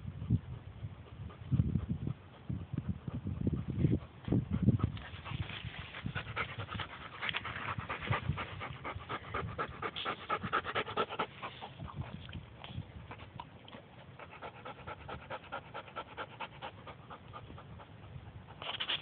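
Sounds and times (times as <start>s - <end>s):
dog panting rapidly: 0.1s - 12.4s, 13.0s - 18.8s.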